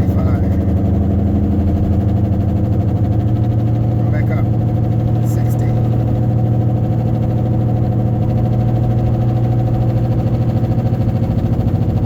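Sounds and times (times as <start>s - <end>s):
low drone inside a car: 0.0s - 12.0s.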